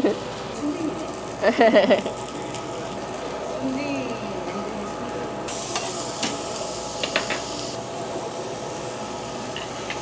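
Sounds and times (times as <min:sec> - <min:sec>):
meat sizzling on a grill plate: 0:00.0 - 0:10.0.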